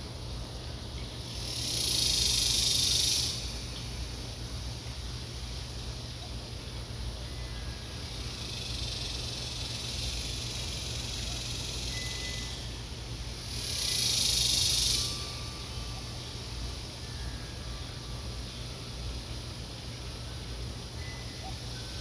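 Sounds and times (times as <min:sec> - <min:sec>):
loud high hiss: 0:00.0 - 0:06.1, 0:06.9 - 0:22.0
faint hiss: 0:00.0 - 0:22.0
steady low hum: 0:00.0 - 0:22.0.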